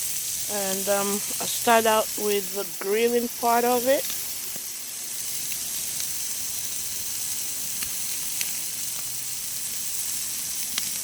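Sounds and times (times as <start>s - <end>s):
chicken sizzling on a grill: 0.0s - 11.0s
faint pops and crackles: 0.5s - 11.0s.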